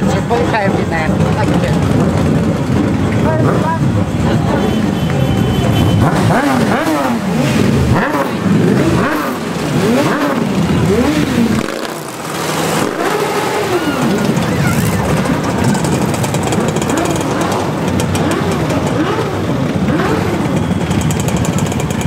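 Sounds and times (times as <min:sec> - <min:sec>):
motorcycles revving past: 0:00.0 - 0:22.0.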